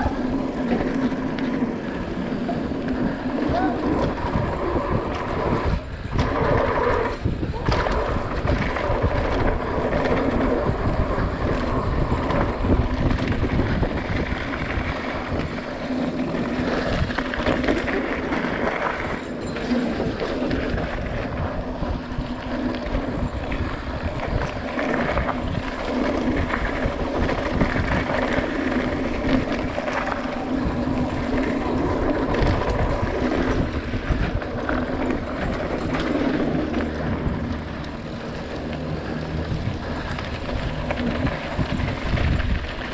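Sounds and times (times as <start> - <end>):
bike rattling and knocking: 0.0 - 42.9
bike tyres on dirt: 0.0 - 42.9.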